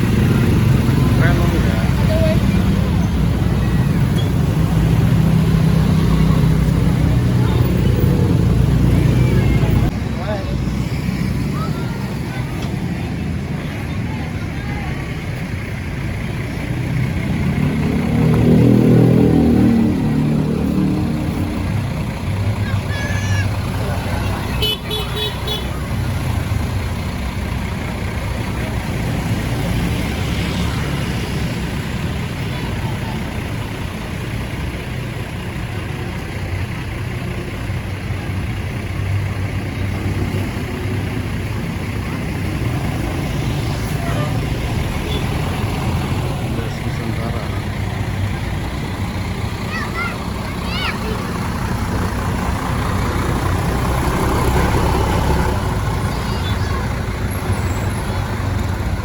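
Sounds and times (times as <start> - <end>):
bus diesel engine revving: 0.0 - 59.0.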